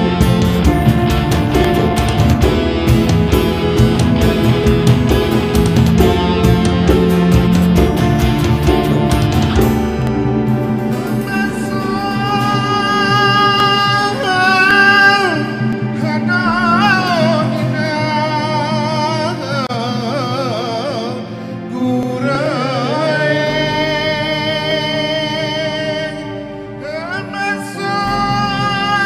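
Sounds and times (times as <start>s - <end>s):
sustained instrumental tones: 0.0s - 29.0s.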